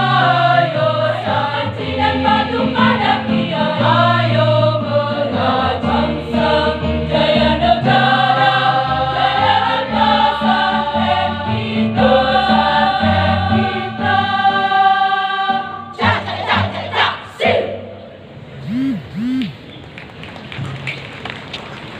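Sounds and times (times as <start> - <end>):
choir singing a march: 0.0 - 18.0.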